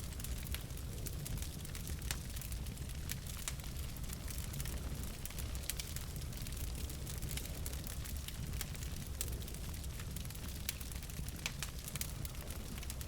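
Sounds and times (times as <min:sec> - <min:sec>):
low rumble of flames: 0:00.0 - 0:13.0
logs crackling and popping: 0:00.1 - 0:13.0.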